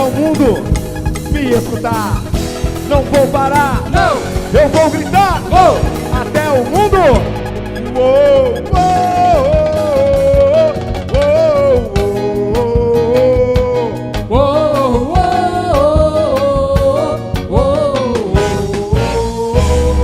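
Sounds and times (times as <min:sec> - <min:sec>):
upbeat worship band music: 0:00.0 - 0:20.0.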